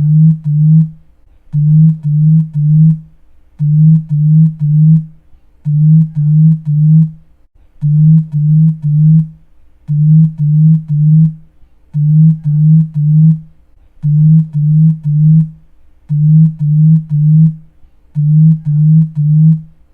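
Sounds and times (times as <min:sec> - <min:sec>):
low vibration buzz: 0:00.0 - 0:19.9.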